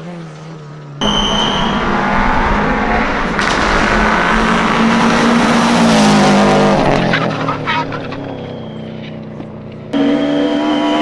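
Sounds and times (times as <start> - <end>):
rally car engine at full throttle: 0.0 - 11.0
sharp exhaust cracks: 1.0 - 9.9.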